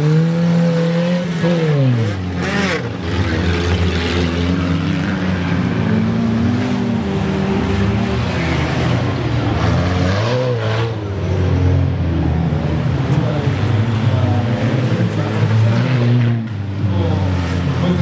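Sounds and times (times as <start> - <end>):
car engines running hard: 0.0 - 18.0.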